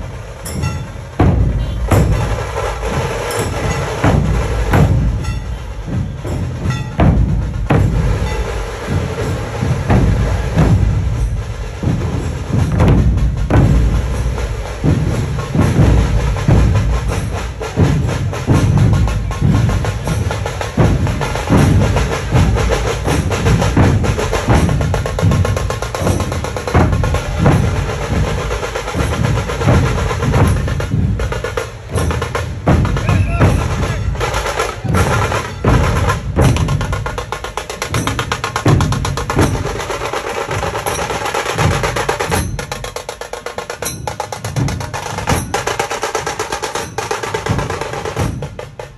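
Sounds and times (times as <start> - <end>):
barrel drums thumping: 0.0 - 48.9
rapid high drum strikes: 0.0 - 48.9.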